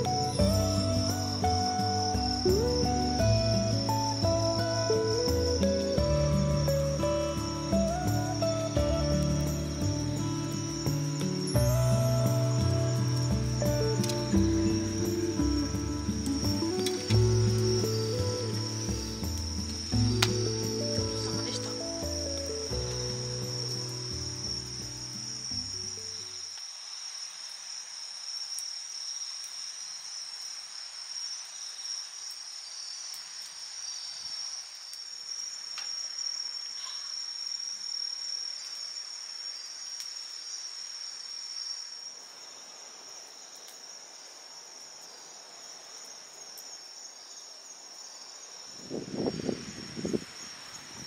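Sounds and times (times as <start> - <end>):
crickets chirping: 0.0 - 51.0.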